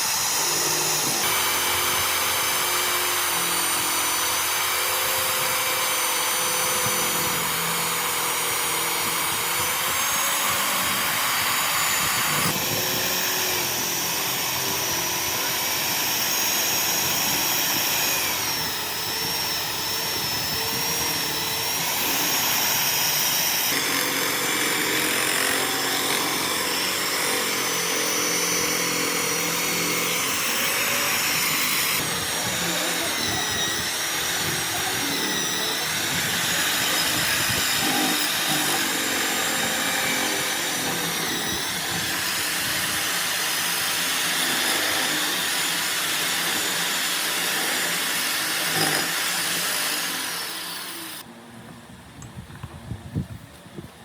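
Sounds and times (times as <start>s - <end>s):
motor-driven machine running: 0.0s - 51.3s.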